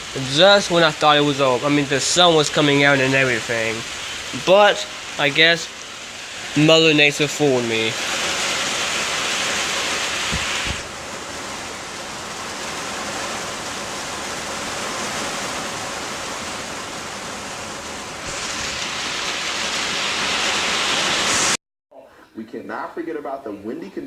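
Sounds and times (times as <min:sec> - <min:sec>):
heavy rain pouring: 0:00.0 - 0:21.6.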